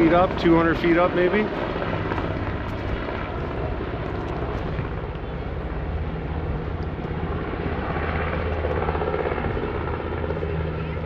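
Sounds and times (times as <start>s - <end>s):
helicopter engine noise: 0.0s - 11.0s
helicopter rotor beat: 0.0s - 11.0s.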